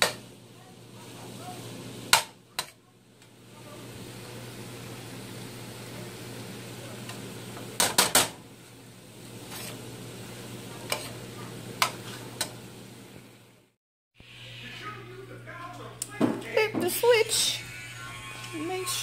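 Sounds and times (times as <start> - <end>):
soft sizzle: 0.0 - 19.0.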